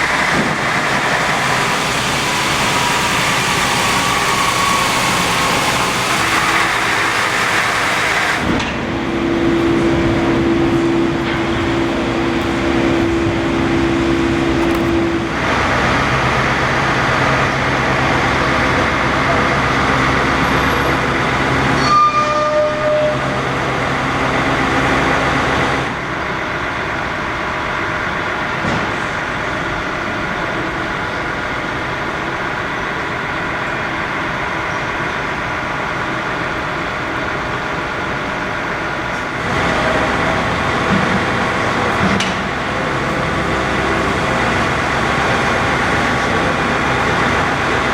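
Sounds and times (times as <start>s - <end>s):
heavy diesel engines running: 0.0s - 47.9s.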